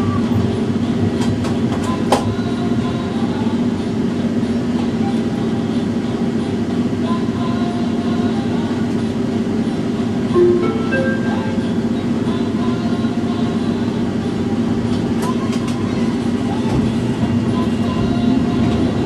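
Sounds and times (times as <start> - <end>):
tram electrical hum: 0.0 - 19.0.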